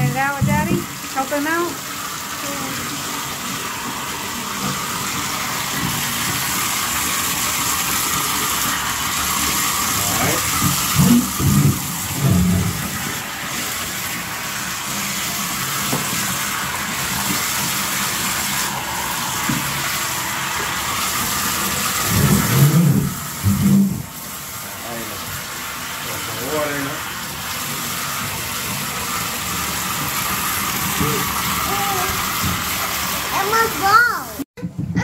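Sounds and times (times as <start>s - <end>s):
water pouring into glass tank: 0.0s - 34.4s.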